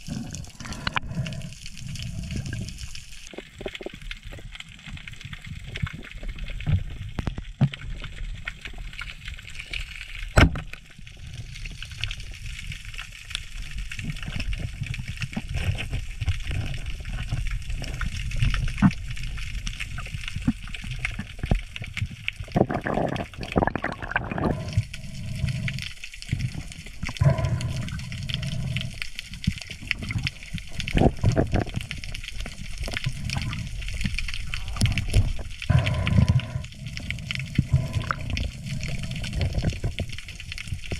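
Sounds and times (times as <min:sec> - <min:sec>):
crackling clicks: 0:00.0 - 0:40.9
sea water sloshing and gurgling: 0:00.0 - 0:40.9.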